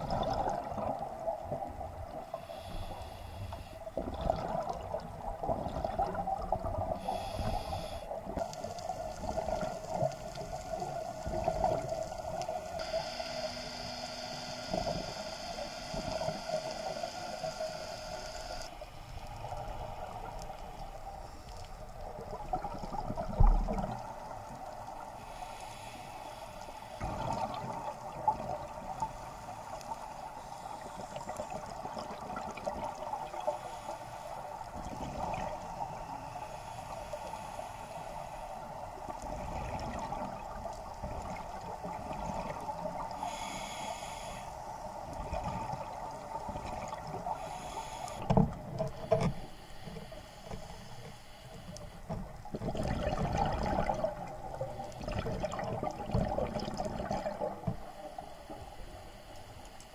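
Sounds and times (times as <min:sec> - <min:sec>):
muffled underwater hiss: 0:00.0 - 0:59.9.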